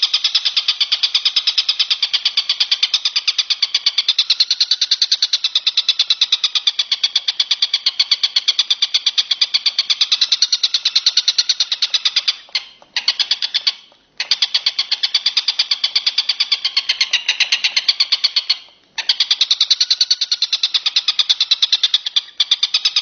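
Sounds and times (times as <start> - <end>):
high-pitched pulsed bird trill: 0.0 - 23.0.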